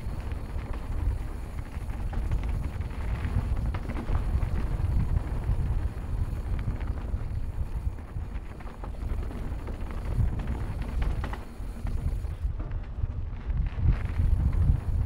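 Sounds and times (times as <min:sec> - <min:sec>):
bike tyres and frame rattling: 0:00.0 - 0:15.0
wind noise on microphone: 0:00.0 - 0:15.0.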